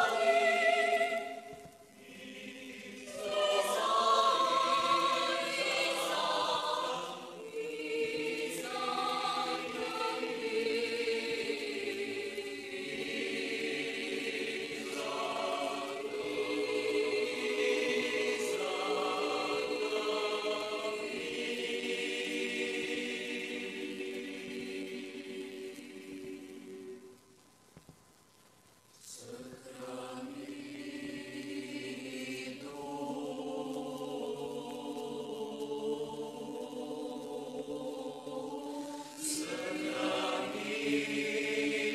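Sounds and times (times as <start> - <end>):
choir singing a slow chant: 0.0 - 27.4, 29.0 - 41.9.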